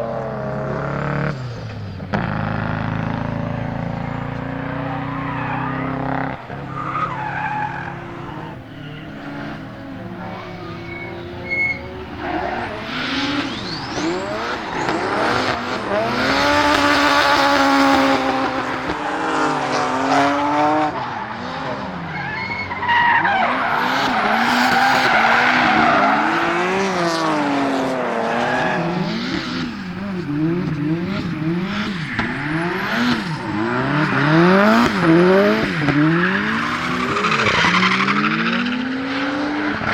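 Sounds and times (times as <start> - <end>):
car engine revving: 0.0 - 39.9
tyres squealing: 4.0 - 19.6, 21.0 - 38.4.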